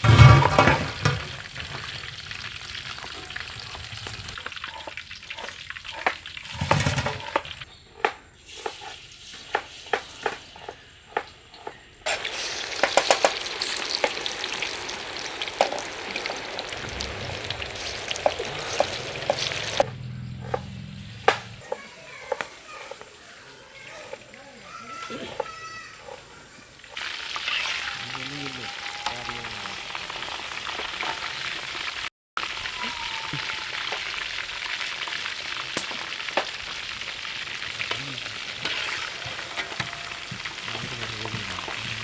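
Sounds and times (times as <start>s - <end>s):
food sizzling in a pan: 0.0s - 7.7s, 8.4s - 19.9s, 21.6s - 42.0s.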